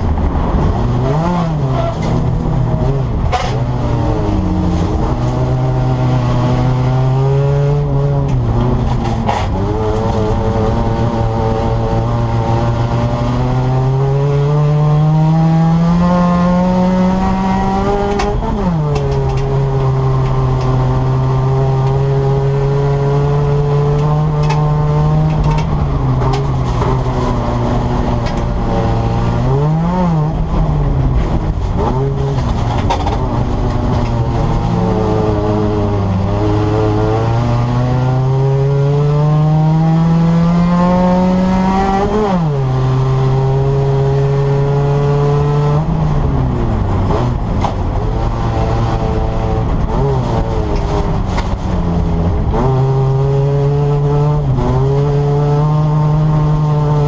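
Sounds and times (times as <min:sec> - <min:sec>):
car engine revving from inside: 0:03.7 - 0:57.0.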